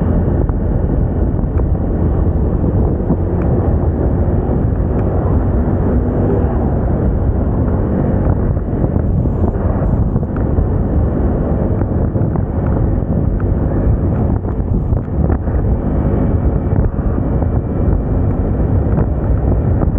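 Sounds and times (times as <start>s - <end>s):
wind on microphone: 0.0s - 19.9s.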